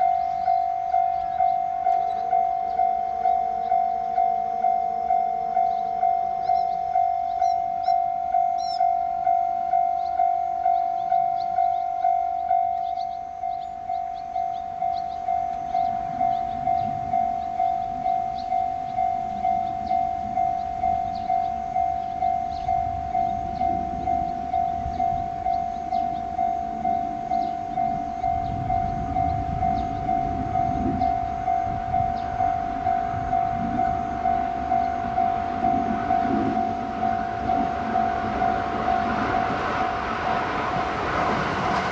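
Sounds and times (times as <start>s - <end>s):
level crossing alarm bell ringing: 0.0s - 41.9s
train rumbling on rails: 0.0s - 41.9s.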